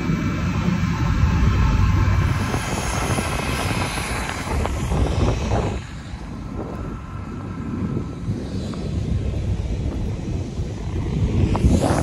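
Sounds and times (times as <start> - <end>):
gusty wind buffeting microphone: 0.0 - 12.0
parked jet aircraft running: 0.0 - 12.0.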